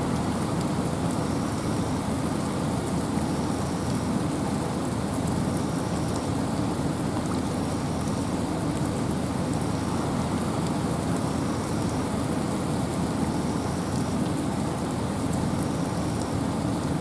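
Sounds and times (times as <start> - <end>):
rain falling in forest: 0.0 - 17.0
wind: 0.0 - 17.0.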